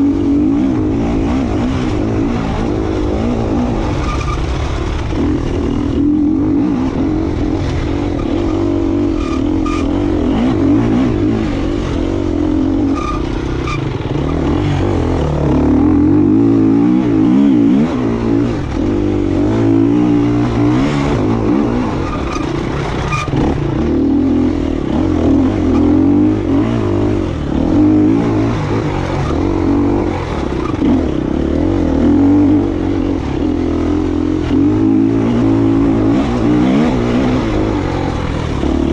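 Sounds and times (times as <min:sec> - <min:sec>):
motorcycle engine revving under load: 0:00.0 - 0:38.9.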